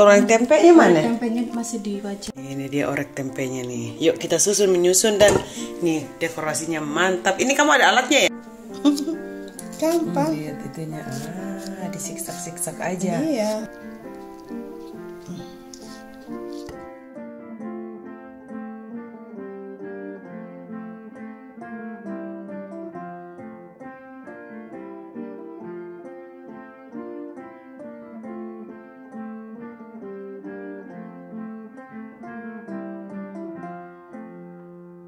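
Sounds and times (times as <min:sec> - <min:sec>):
light instrumental tune: 0:00.0 - 0:35.0.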